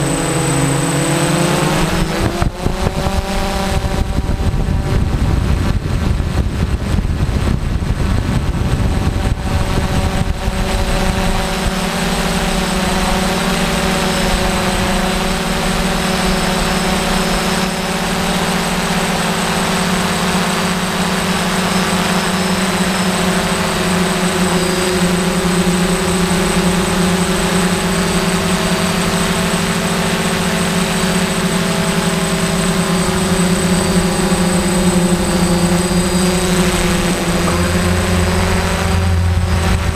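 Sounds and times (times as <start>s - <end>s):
drone motors and propellers droning: 0.0s - 39.9s
wind rumble on microphone: 0.0s - 39.9s.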